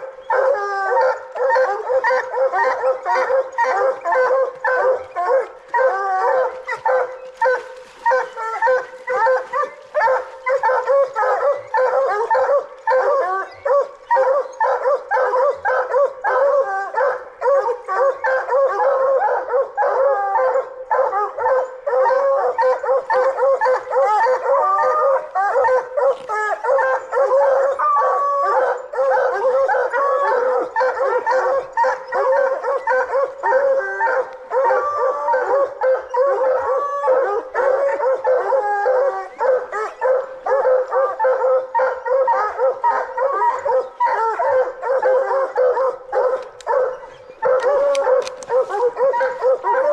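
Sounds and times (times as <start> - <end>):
dogs barking and howling: 0.0 - 49.9.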